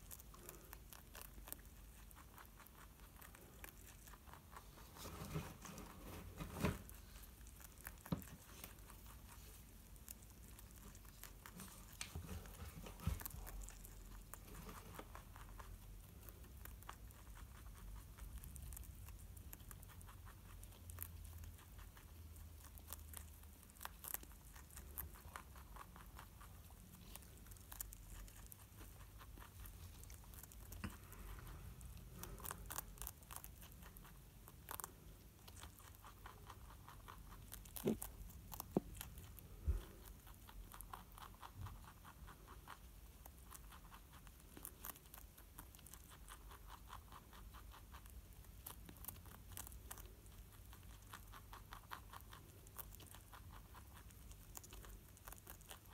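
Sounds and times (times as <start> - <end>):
rabbit chewing: 0.0 - 55.9.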